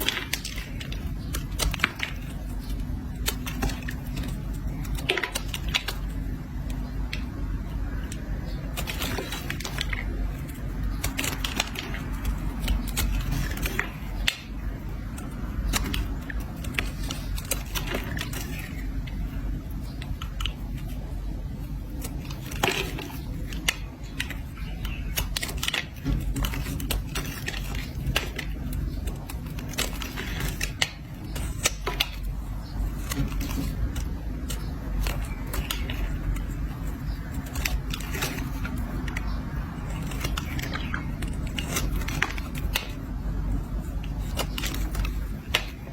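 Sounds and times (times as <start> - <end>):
blade scraping soap: 7.9 - 45.9.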